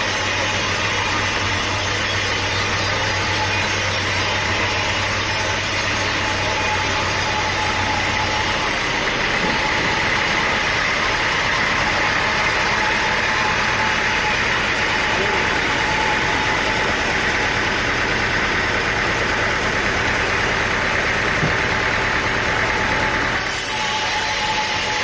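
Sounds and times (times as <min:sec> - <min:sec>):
machinery engine droning: 0:00.0 - 0:25.0.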